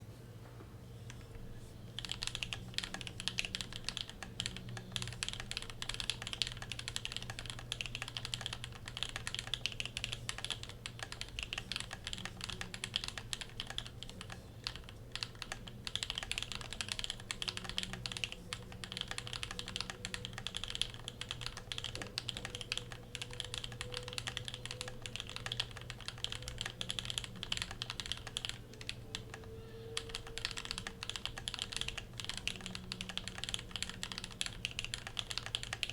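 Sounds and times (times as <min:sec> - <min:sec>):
mechanical keyboard keystroke clacks: 0:02.0 - 0:35.9.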